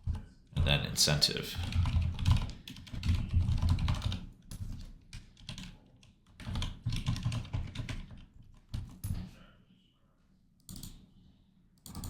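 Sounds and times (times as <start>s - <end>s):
computer keyboard typing: 0.0s - 9.2s, 10.6s - 11.0s, 11.8s - 12.0s.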